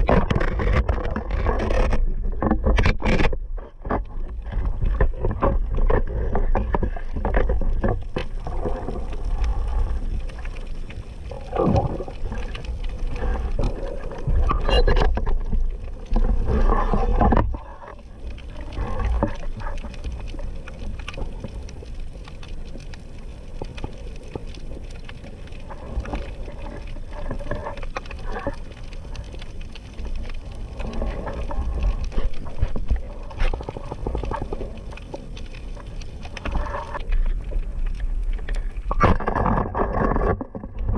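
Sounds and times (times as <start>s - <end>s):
knocks and clicks underwater: 0.0s - 40.9s
quiet crackle: 0.0s - 40.9s
underwater rumble of moving water: 0.0s - 40.9s.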